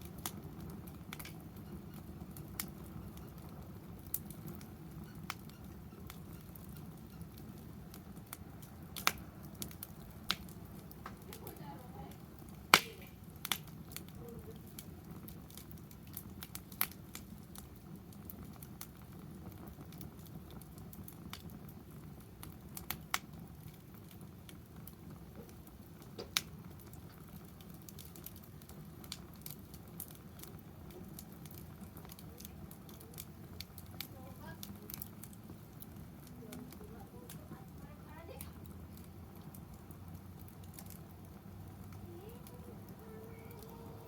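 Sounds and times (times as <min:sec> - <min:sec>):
fire popping: 0:00.0 - 0:44.0
wood fire crackling: 0:00.0 - 0:44.0.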